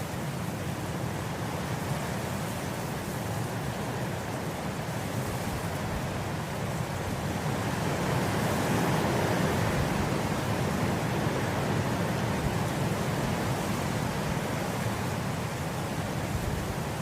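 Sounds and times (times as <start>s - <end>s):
wind through grass: 0.0s - 17.0s.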